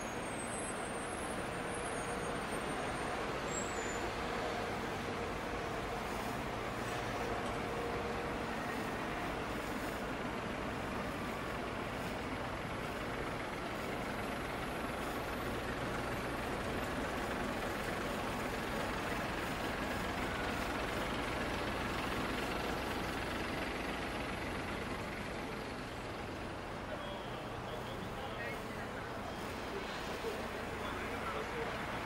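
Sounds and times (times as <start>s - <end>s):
bus passing by: 0.0s - 32.0s
street traffic noise: 0.0s - 32.0s.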